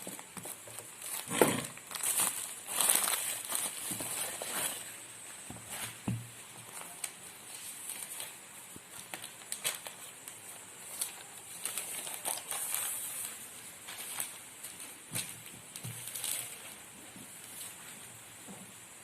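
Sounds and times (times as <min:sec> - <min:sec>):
packaging clicks and rustles: 0:00.0 - 0:05.0, 0:05.6 - 0:17.8
faint hiss: 0:00.0 - 0:19.0.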